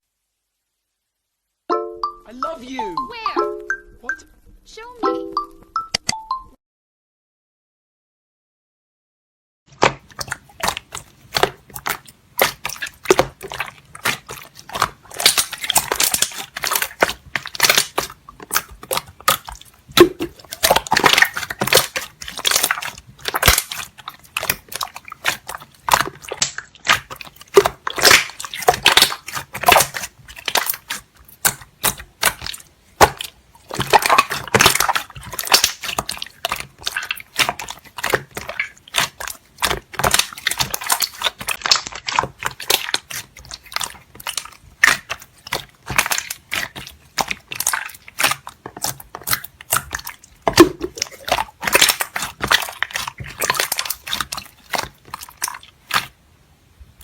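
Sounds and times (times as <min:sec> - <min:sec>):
slime crackling and popping: 0:09.7 - 0:56.2.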